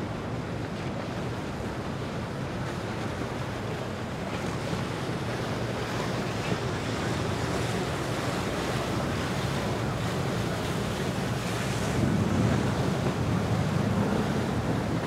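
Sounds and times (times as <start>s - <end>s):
water rushing: 0.0s - 15.0s
boat motor rumbling: 0.1s - 15.0s
wind buffeting microphone: 0.4s - 15.0s.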